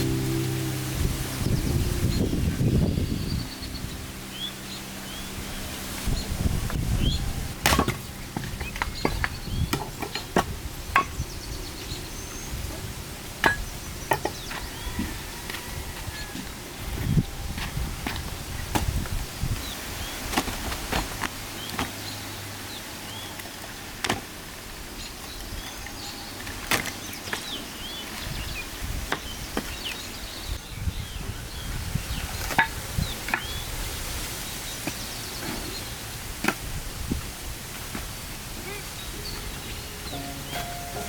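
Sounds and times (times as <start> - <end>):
outdoor background noise: 0.0 - 41.0.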